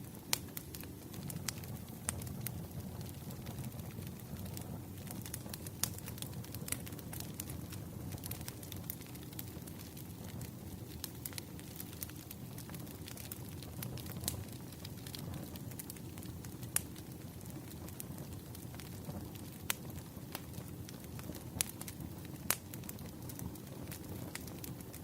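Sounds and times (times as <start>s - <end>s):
bonfire crackling: 0.0s - 25.0s.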